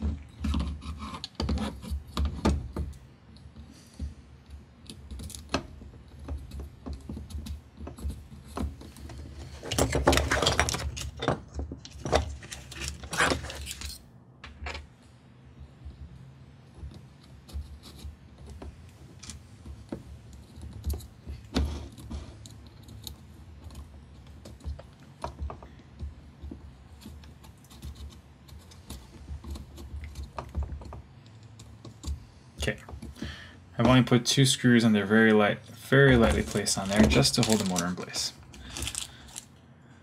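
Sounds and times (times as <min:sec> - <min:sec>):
screws and frame clicking and rattling: 0:00.0 - 0:14.0, 0:15.9 - 0:33.2, 0:36.1 - 0:39.5.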